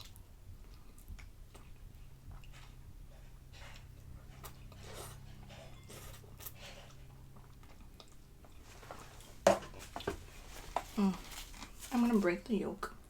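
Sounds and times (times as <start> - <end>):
chewing noodles: 0.0 - 11.9.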